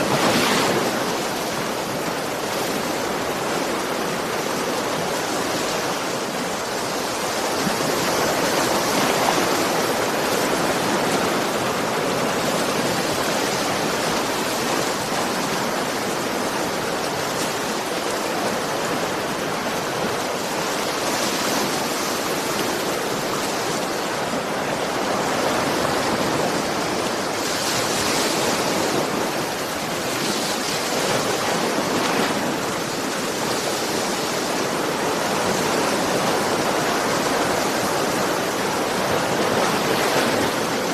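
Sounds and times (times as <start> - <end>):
ocean waves surf: 0.0 - 40.9.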